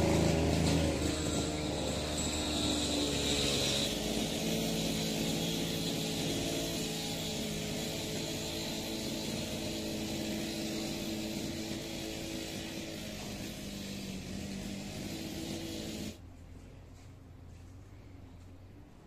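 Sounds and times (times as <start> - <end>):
small petrol engine running: 0.0 - 16.2.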